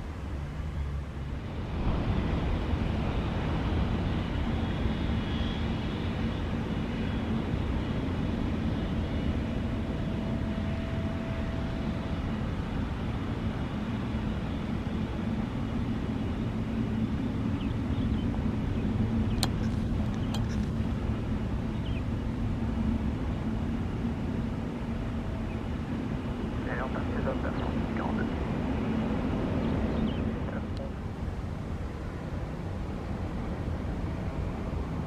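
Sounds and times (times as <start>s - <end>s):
jet airliner rumble: 0.0s - 35.0s.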